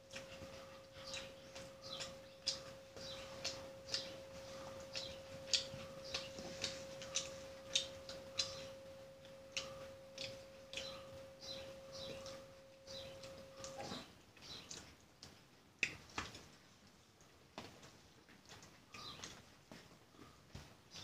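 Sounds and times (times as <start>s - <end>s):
wet chewing and mouth smacks: 0.0s - 20.4s
faint steady hum: 0.0s - 21.0s.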